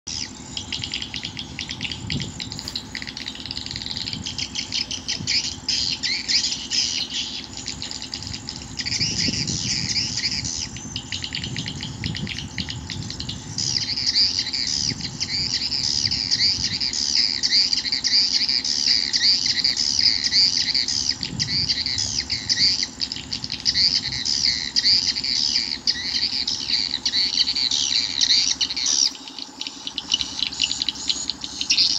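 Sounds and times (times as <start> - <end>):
swiftlet chirps and twitters: 0.1 - 31.9.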